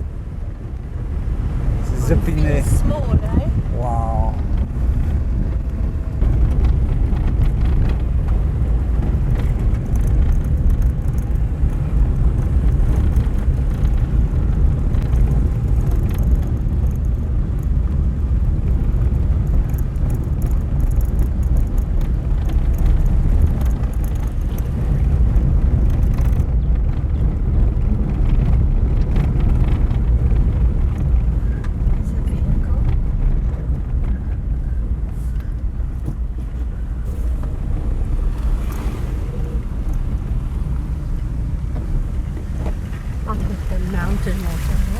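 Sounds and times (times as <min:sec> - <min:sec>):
car driving on gravel: 0:00.0 - 0:44.9.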